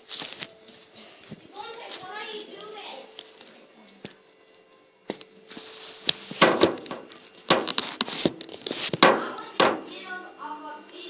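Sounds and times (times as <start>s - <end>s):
rustling: 0.0s - 10.1s.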